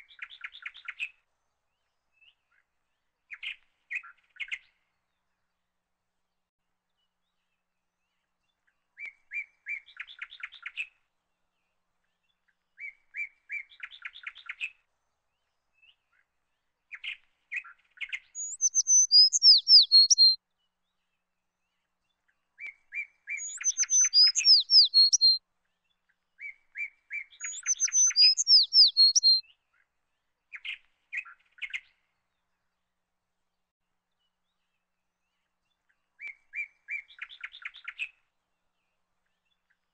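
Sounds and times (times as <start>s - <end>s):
songbird singing: 0.0s - 5.6s, 6.9s - 11.0s, 11.6s - 32.9s, 34.1s - 38.2s.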